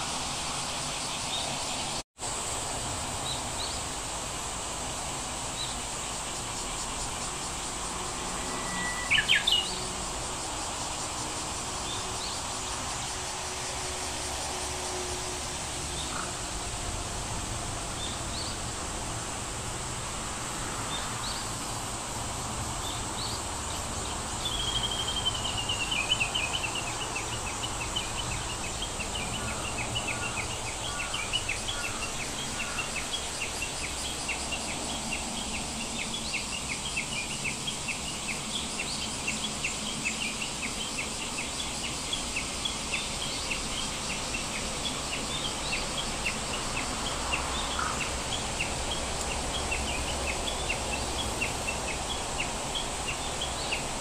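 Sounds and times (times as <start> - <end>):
high hiss: 0.0 - 54.0.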